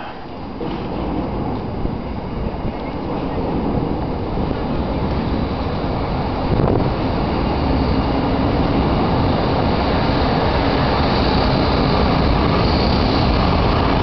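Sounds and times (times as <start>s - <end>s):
train rolling over bridge: 0.0s - 14.0s.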